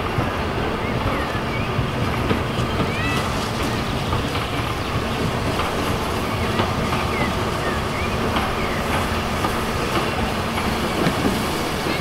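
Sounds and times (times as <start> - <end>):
steam locomotive rumbling: 0.0 - 12.0.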